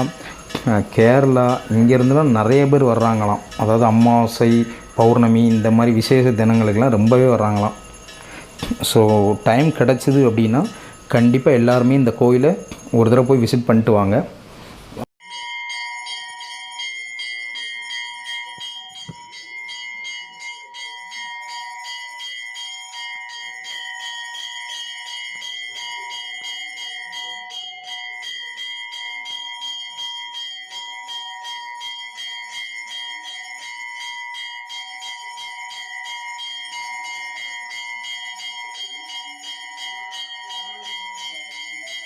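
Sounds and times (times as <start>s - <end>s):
bells rung rapidly: 0.0s - 14.2s, 15.2s - 42.0s.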